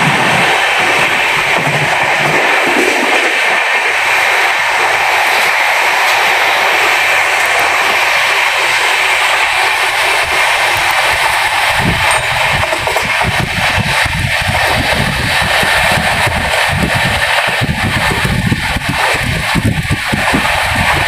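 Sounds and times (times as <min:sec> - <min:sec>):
deep train rumble: 0:00.0 - 0:21.0
train wheels rushing on rails: 0:00.0 - 0:21.0
wind rushing: 0:00.0 - 0:21.0.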